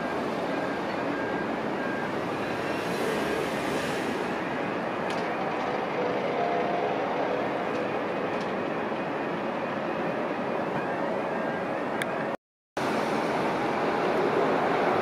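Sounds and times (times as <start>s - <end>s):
distant aircraft engines: 0.0s - 15.0s.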